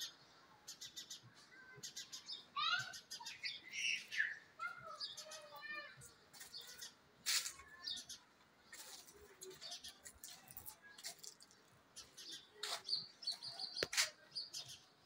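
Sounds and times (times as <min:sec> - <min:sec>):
small birds chirping and twittering: 0:00.0 - 0:15.0.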